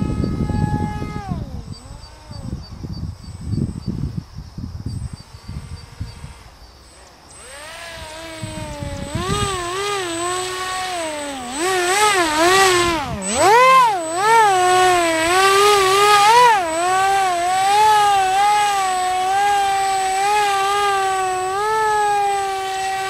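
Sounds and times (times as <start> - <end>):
model plane motor whining: 0.0 - 23.0.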